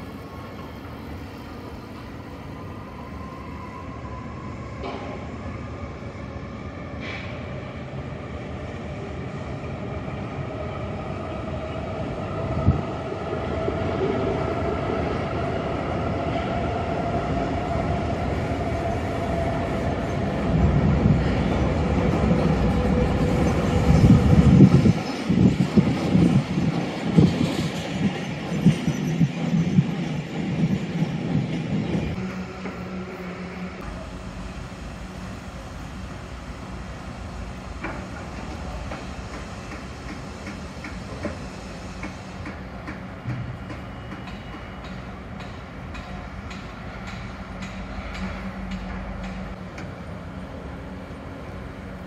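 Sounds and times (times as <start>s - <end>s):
electric train rolling hum: 0.0s - 52.0s
freight train wheels rumbling: 0.0s - 52.0s.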